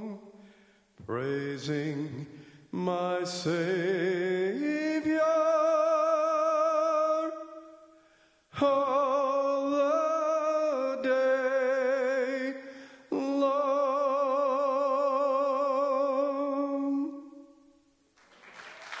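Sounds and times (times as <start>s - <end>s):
man singing into a microphone: 0.0s - 0.4s, 1.0s - 7.7s, 8.5s - 17.6s.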